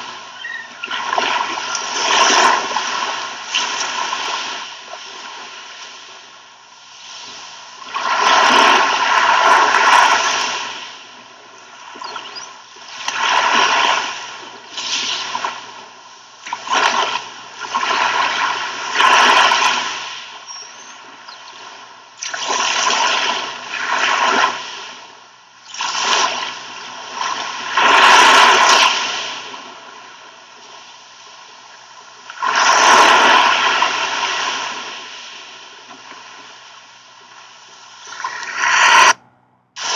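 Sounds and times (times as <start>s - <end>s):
sea waves breaking on beach: 0.0s - 39.2s.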